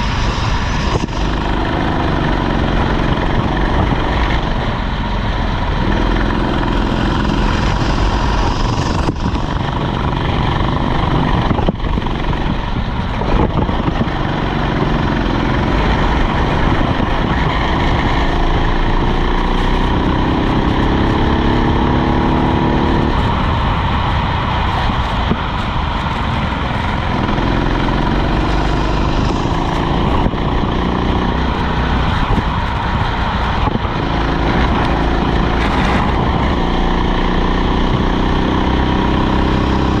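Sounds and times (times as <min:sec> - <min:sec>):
kart engine accelerating: 0:00.0 - 0:40.0
wind and road noise: 0:00.0 - 0:40.0.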